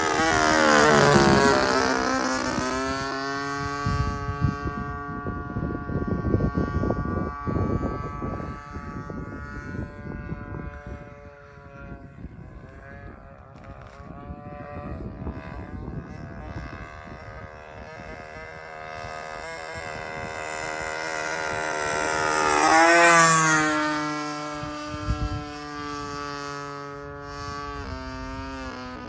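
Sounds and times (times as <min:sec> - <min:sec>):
model airplane engine flying past: 0:00.0 - 0:29.0
wind rumble on microphone: 0:00.0 - 0:29.0.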